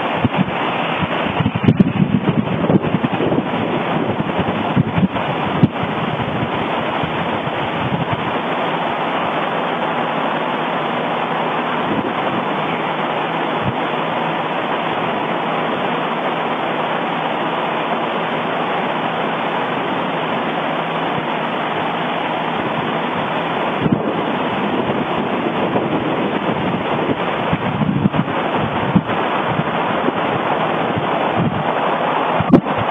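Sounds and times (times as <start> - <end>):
volcano eruption rushing: 0.0 - 32.9.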